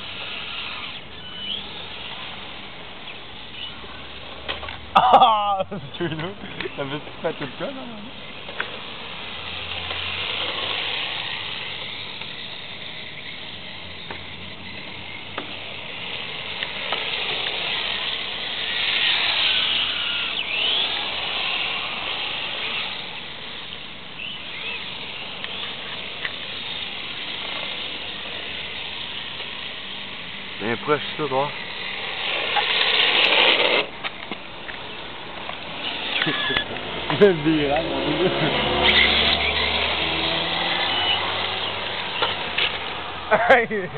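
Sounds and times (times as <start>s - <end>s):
toy car motor whines: 0.0s - 4.5s, 6.5s - 43.5s
toy cars tyres hissing on asphalt: 0.0s - 43.9s.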